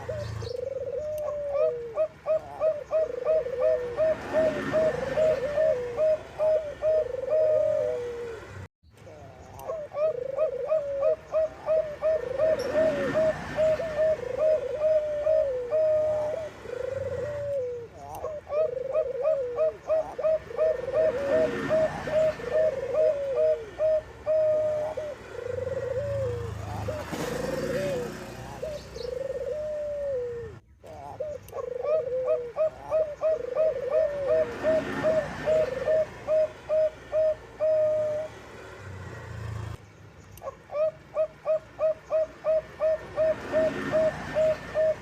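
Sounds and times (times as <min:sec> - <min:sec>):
doves cooing: 0:00.0 - 0:39.8, 0:40.4 - 0:45.0.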